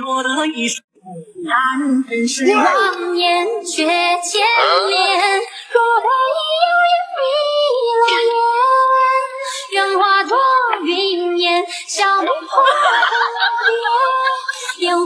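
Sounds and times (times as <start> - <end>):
high-pitched voice singing: 1.1 - 15.0.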